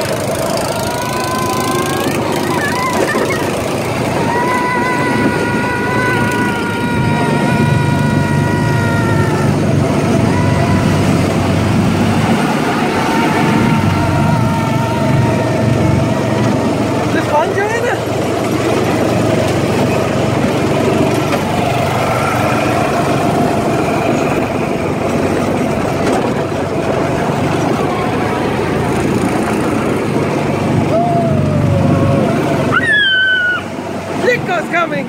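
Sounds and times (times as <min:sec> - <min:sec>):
low rumble: 0:00.0 - 0:32.8
go-kart engines whining: 0:00.0 - 0:35.0.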